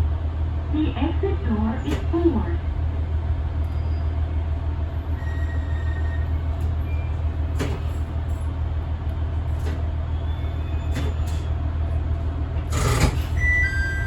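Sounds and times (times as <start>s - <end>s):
railcar engine drone: 0.0s - 14.0s.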